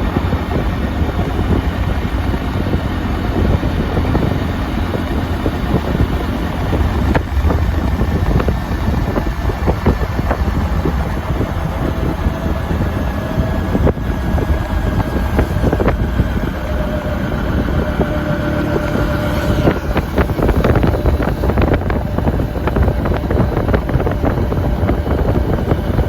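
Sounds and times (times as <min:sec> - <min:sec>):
motor running: 0:00.0 - 0:26.0
wind buffeting microphone: 0:00.0 - 0:26.0.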